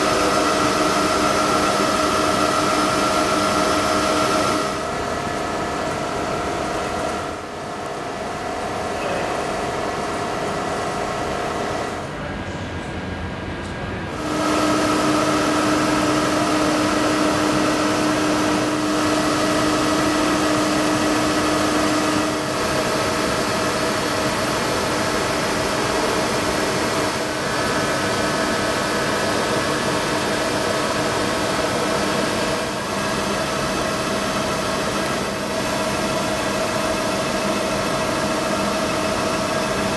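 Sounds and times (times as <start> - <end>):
milling machine humming and whining: 0.0 - 39.9.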